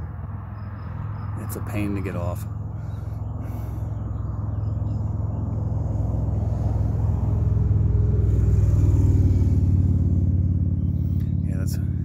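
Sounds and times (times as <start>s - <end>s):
low pulsing engine rumble: 0.0s - 12.0s.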